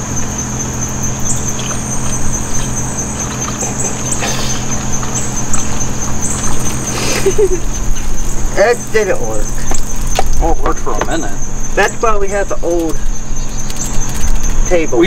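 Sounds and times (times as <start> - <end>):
constant low hum: 0.0 - 15.0
insects trilling: 0.0 - 15.0.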